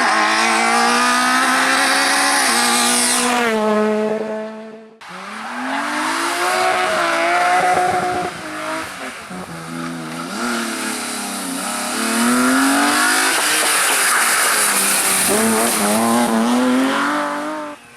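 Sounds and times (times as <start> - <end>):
race car engine revving: 0.0 - 17.8.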